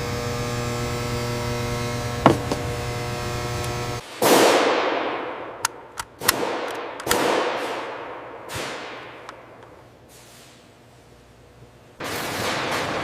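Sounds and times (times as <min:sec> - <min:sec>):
factory machine hum: 0:00.0 - 0:13.0.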